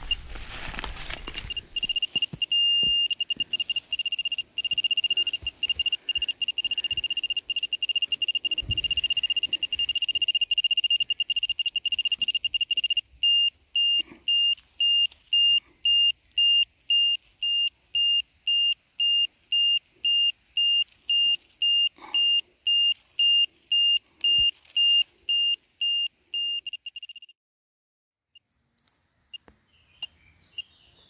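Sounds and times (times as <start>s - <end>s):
high-pitched meter beeping: 1.4s - 27.3s.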